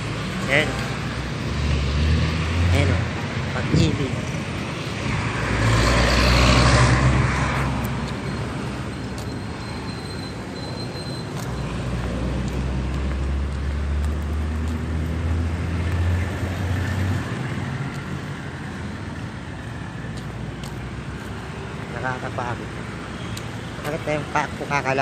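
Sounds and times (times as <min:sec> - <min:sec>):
street traffic rush: 0:00.0 - 0:25.0
vehicle engine rumble: 0:00.0 - 0:25.0.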